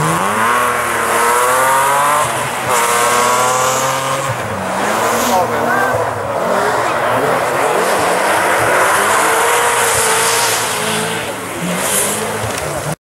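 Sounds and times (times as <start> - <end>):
car engine at high revs: 0.0 - 13.0
gravel spray and tyre noise: 0.0 - 13.0.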